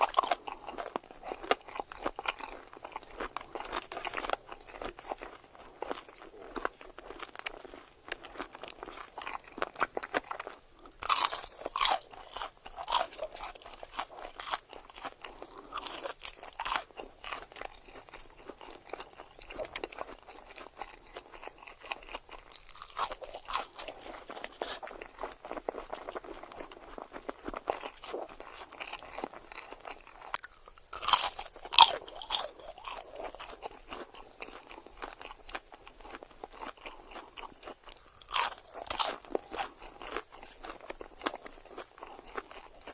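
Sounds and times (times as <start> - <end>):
chewing crunchy food: 0.0 - 42.9
crunching bites: 0.0 - 42.9.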